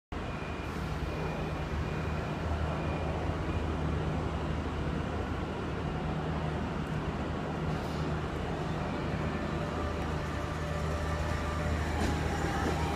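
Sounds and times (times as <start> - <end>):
electric train humming: 0.2 - 12.9.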